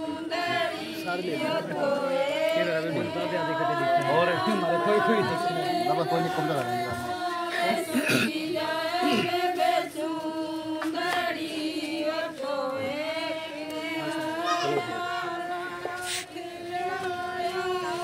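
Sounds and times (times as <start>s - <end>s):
women singing in unison: 0.0s - 18.0s.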